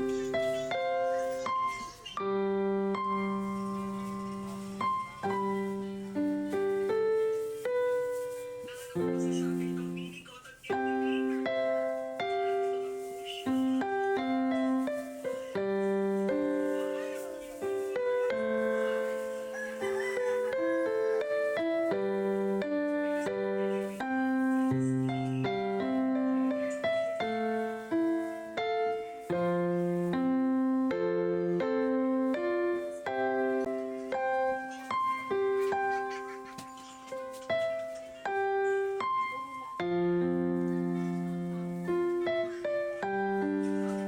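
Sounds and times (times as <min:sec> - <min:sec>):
slow keyboard music: 0:00.0 - 0:44.0.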